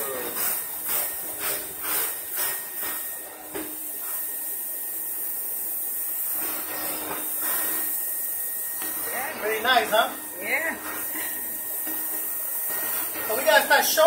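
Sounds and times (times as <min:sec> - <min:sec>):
vacuum suction hiss and whine: 0:00.0 - 0:14.0.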